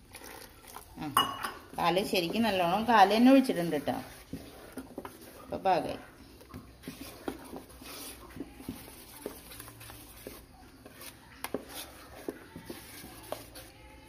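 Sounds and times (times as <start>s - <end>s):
spoon stirring thick batter: 0.0s - 14.0s.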